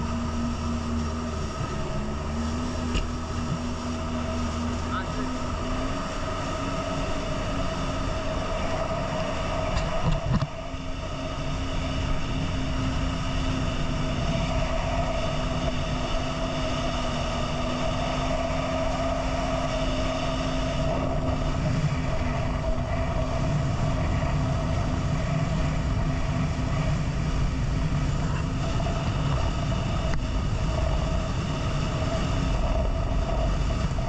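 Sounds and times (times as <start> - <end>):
personal watercraft engine droning: 0.0 - 34.0
wind and water rushing: 0.0 - 34.0.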